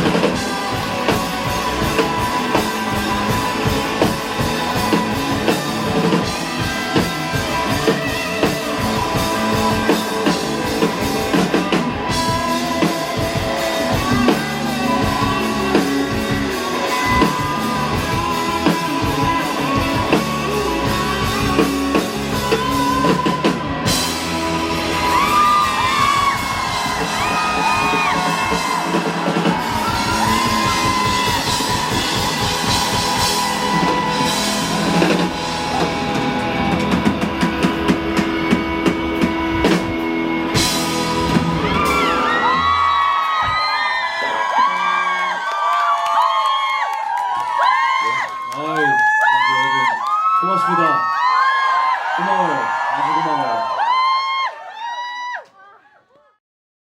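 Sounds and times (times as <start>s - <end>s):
rock band playing live: 0.0s - 50.3s
wailing lead guitar line: 0.0s - 54.7s.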